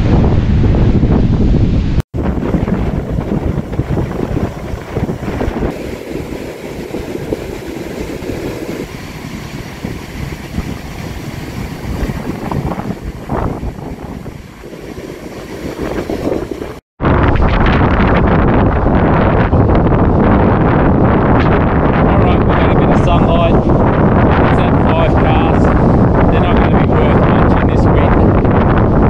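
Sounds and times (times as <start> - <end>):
surf breaking on beach: 0.0 - 29.0
wind buffeting microphone: 0.0 - 29.0.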